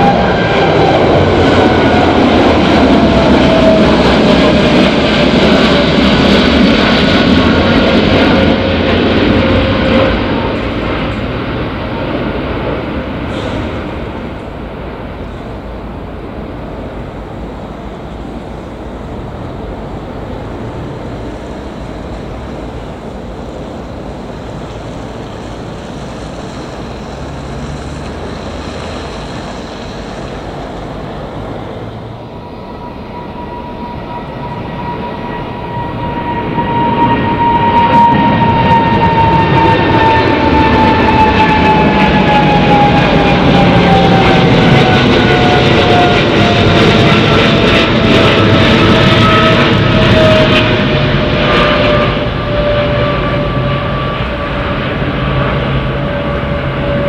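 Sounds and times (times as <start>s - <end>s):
jet engine whine overhead: 0.0s - 57.0s
jet engines rumbling: 0.0s - 57.0s.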